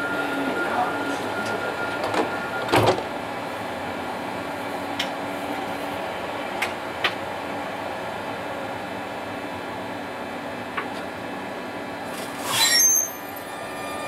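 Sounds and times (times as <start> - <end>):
tram ventilation hum: 0.0 - 14.0.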